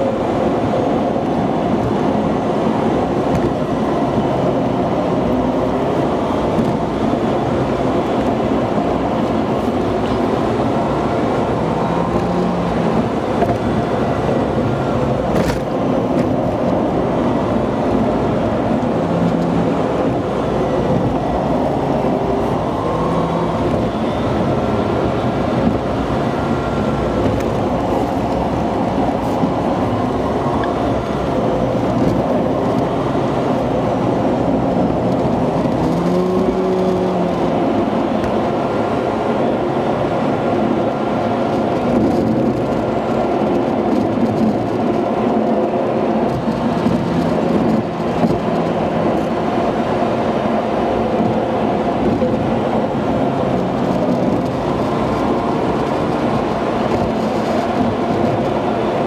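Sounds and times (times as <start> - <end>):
car engine: 0.0 - 59.0
tyre road noise: 0.0 - 59.0.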